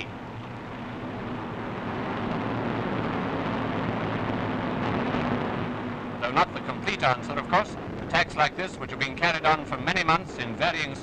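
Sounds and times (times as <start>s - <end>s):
bomber aircraft engines droning: 0.0s - 11.0s.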